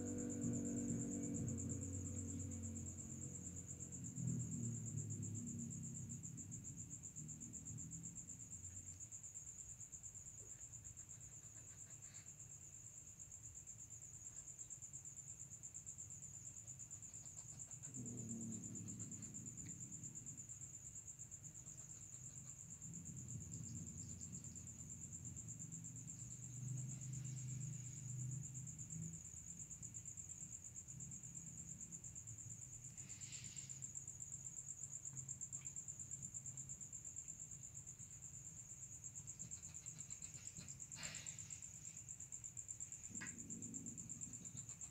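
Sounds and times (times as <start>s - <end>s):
crickets chirring: 0.0s - 44.9s
faint low hum: 0.0s - 44.9s.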